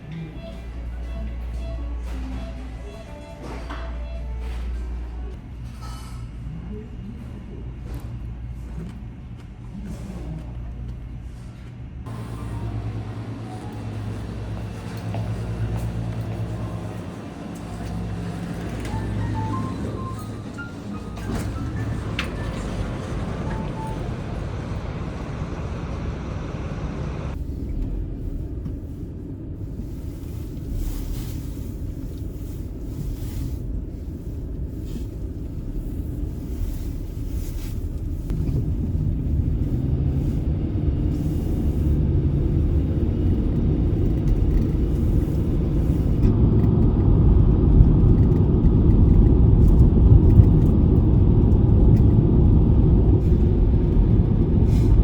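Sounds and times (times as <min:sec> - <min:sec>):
car engine and tyres rumbling: 0:08.0 - 0:55.0.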